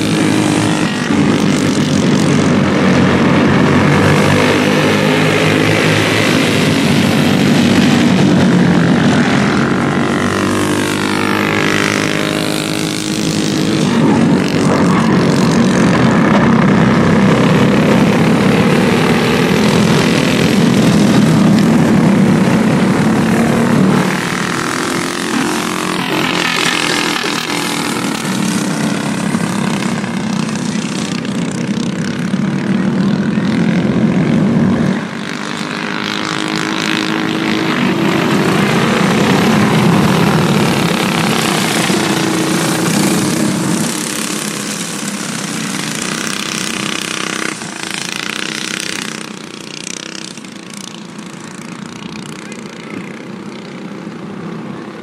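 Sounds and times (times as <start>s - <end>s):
go-kart engines buzzing: 0.0s - 55.0s.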